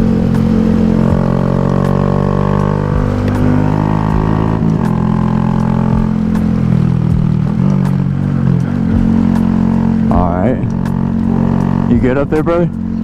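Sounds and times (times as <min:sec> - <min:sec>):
minibike engine running: 0:00.0 - 0:13.0.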